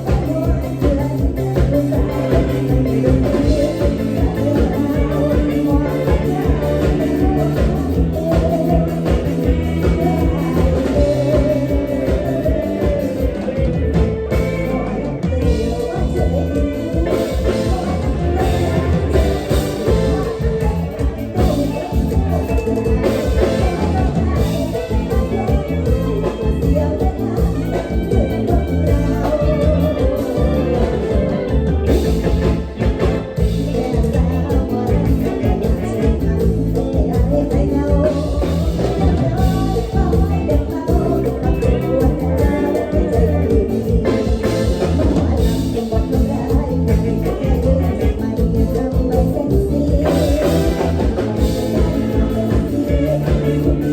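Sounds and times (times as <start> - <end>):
drums keeping a steady beat: 0.0 - 53.9
electric bass: 0.0 - 53.9
live band playing dance music: 0.0 - 53.9.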